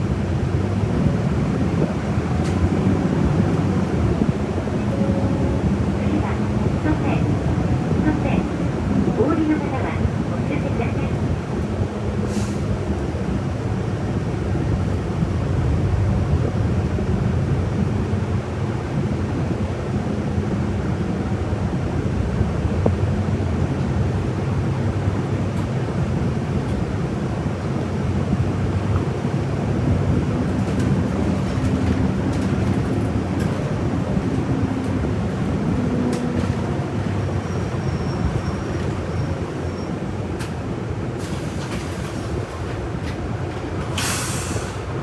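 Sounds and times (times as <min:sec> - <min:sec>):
bus engine hum: 0:00.0 - 0:45.0
road noise: 0:00.0 - 0:45.0.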